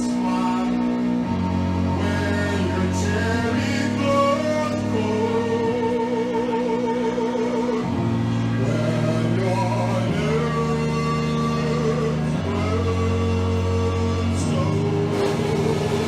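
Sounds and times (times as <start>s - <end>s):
held bass note: 0.0s - 16.0s
person singing long notes: 0.0s - 16.0s
sustained chords: 0.0s - 16.0s.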